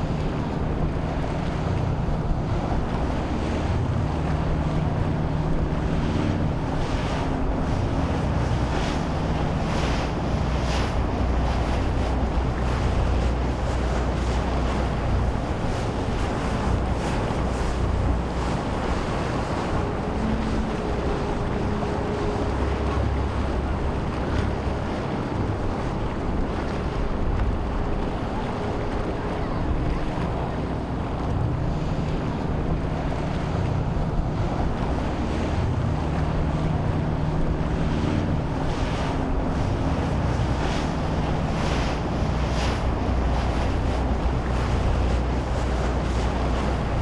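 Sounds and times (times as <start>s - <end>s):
boat engines droning: 0.0s - 47.0s
waves washing: 0.0s - 47.0s
wind buffeting microphone: 0.0s - 47.0s.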